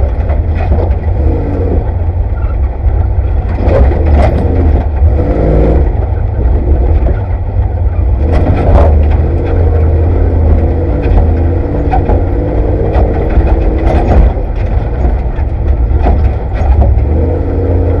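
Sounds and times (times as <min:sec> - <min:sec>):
engine low drone: 0:00.0 - 0:18.0
vehicle knocks and rattles: 0:00.0 - 0:18.0.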